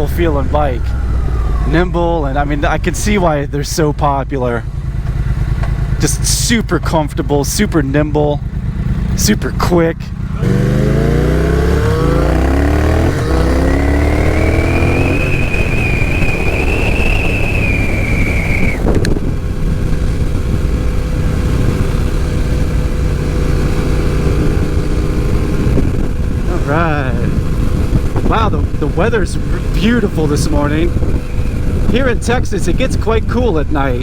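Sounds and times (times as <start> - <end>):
motorcycle engine accelerating: 0.0 - 34.0
road and wind noise: 0.0 - 34.0.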